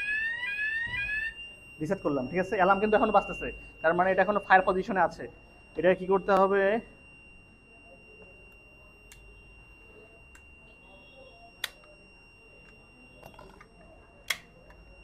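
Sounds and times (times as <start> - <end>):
high-pitched fire alarm tone: 0.0 - 15.0.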